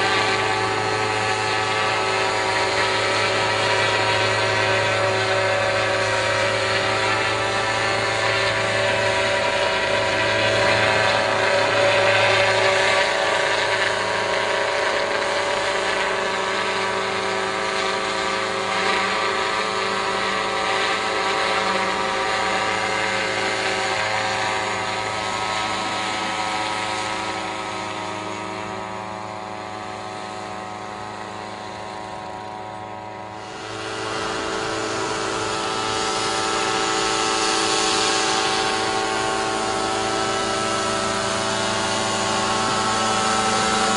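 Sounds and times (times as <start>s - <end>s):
motor whining: 0.0s - 43.9s.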